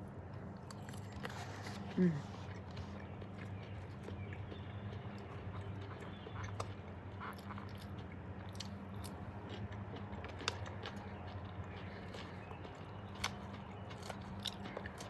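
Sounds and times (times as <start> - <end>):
person chewing food: 0.2 - 15.0.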